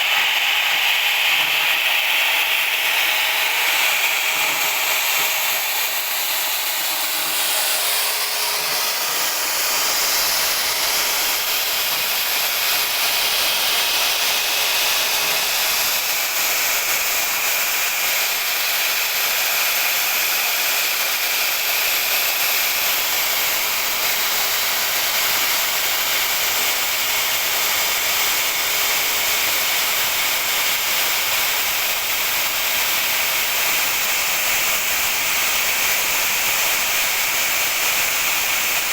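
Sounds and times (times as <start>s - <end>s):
router cutter grinding stone: 0.0s - 38.9s.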